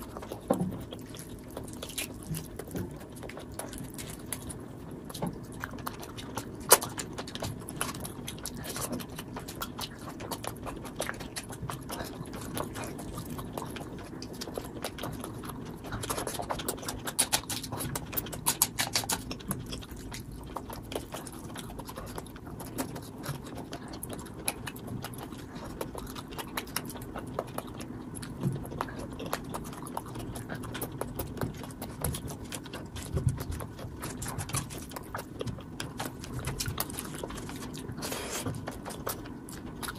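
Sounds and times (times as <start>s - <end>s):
fingers squishing rice and gravy: 0.0s - 39.9s
wet chewing and lip smacking: 0.0s - 39.9s.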